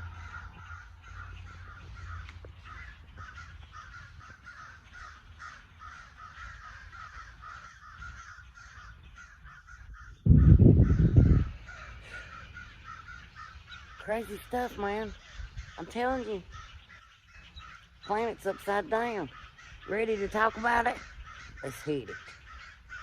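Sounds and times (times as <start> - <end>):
flock of birds calling: 0.0 - 23.0.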